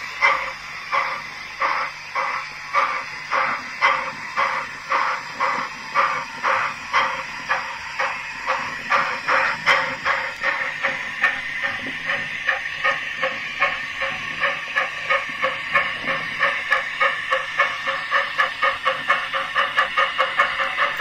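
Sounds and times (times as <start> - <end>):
steam hiss: 0.0 - 21.0
steam locomotive exhaust chuffing: 0.0 - 21.0.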